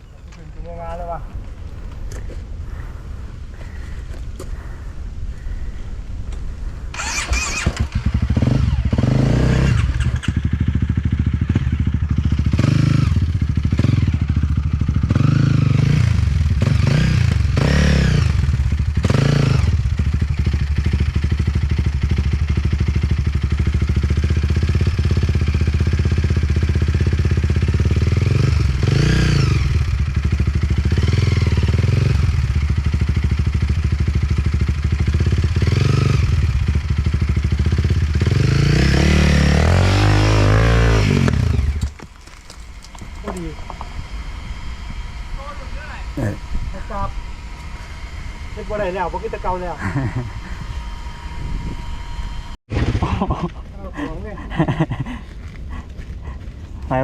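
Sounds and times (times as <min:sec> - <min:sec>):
dirt bike engine revving: 0:06.9 - 0:53.4.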